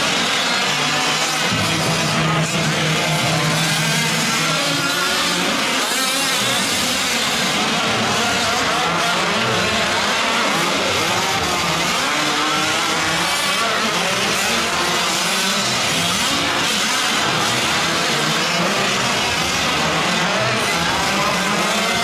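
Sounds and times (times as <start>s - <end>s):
small two-stroke engines racing: 0.0s - 22.0s.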